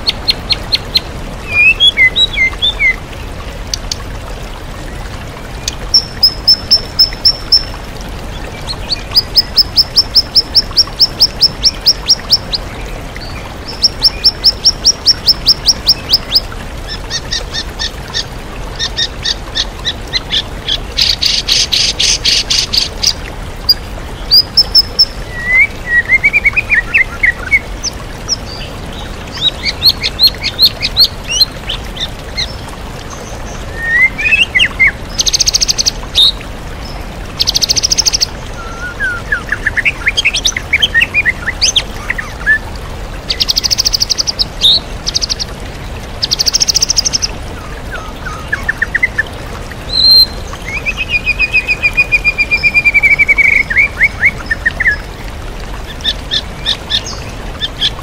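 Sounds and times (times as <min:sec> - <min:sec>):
songbird singing: 0:00.0 - 0:04.0, 0:05.6 - 0:42.6, 0:43.2 - 0:45.6, 0:46.2 - 0:55.2, 0:55.8 - 0:58.0
waterfall rushing: 0:00.0 - 0:58.0.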